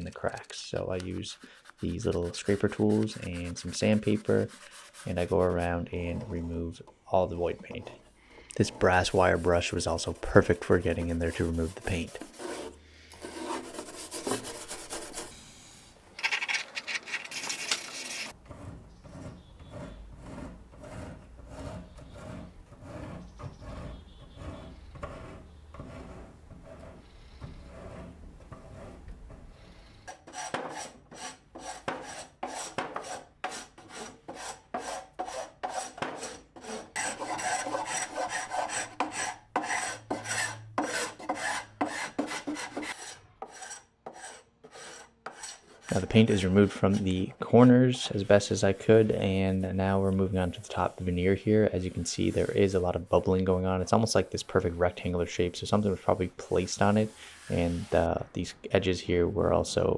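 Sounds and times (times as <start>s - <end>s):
tools scraping on wood: 0.0s - 6.6s, 8.6s - 15.4s, 16.2s - 58.0s.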